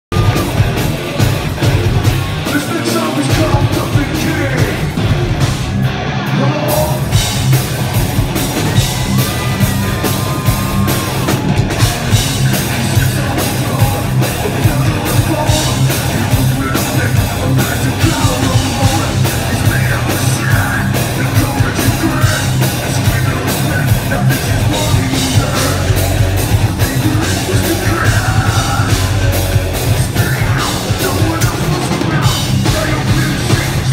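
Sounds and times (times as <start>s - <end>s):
drum kit: 0.0s - 33.9s
electric guitars: 0.1s - 33.9s
rock vocals: 0.1s - 33.9s.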